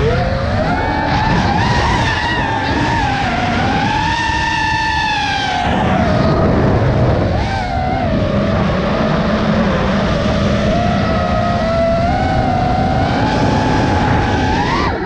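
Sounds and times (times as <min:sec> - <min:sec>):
quadcopter motors whining: 0:00.0 - 0:15.0
wind on microphone: 0:00.0 - 0:15.0.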